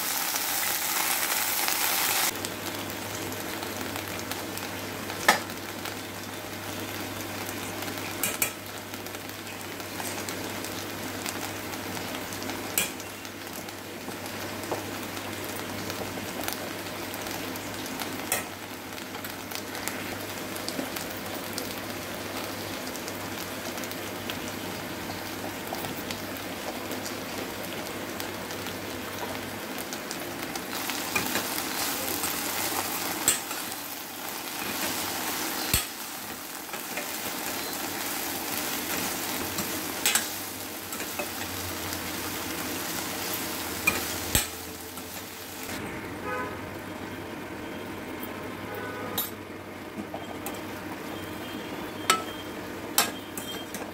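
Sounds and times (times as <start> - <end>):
okra sizzling in oil: 0.0 - 45.8.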